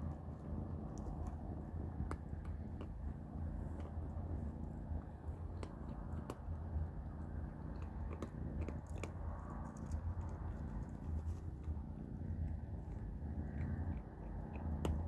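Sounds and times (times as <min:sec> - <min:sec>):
kittens crunching dry kibble: 0:00.0 - 0:15.0
low steady hum: 0:00.0 - 0:15.0.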